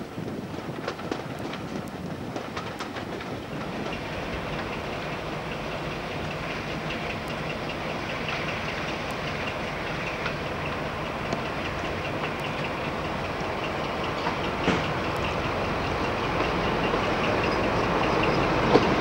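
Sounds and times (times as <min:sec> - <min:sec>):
rail and wheel noise: 0:00.0 - 0:19.0
train engine hum: 0:00.0 - 0:19.0
light regular ticking: 0:00.8 - 0:19.0.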